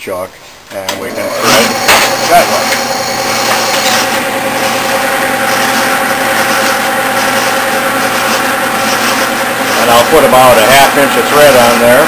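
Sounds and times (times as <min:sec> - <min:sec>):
lathe running steadily: 0:00.9 - 0:12.0.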